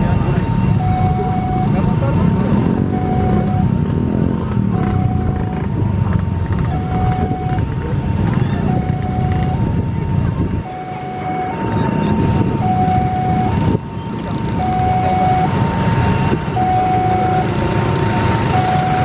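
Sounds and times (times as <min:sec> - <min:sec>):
two-tone emergency siren: 0:00.0 - 0:03.9, 0:04.7 - 0:05.8, 0:06.6 - 0:19.0
steady low rumble: 0:00.0 - 0:19.0.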